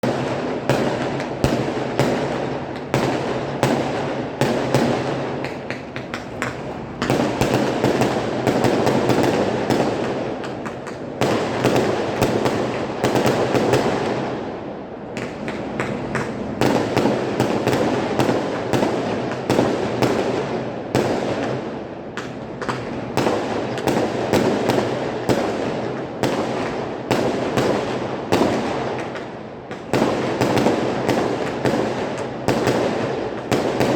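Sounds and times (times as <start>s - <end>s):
fireworks and firecrackers banging: 0.0s - 33.9s.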